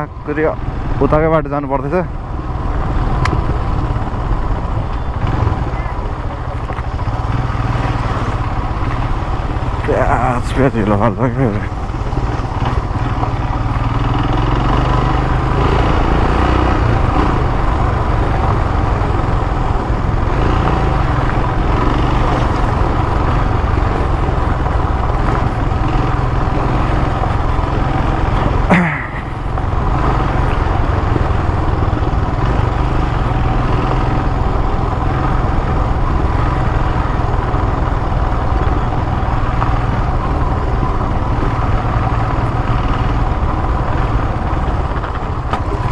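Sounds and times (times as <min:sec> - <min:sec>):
motorcycle engine running: 0:00.0 - 0:45.9
wind and road rush: 0:00.0 - 0:45.9.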